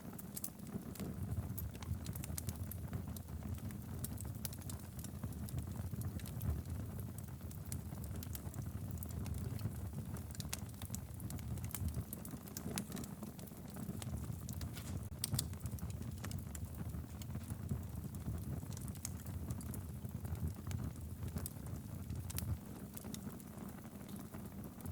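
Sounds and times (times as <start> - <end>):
fire rumbling: 0.1 - 24.9
logs crackling and popping: 0.2 - 24.9.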